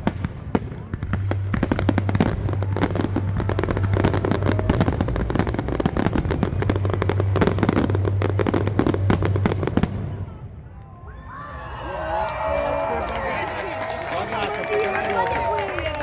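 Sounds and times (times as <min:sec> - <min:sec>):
fireworks bangs and crackles: 0:00.0 - 0:10.8, 0:13.4 - 0:16.0.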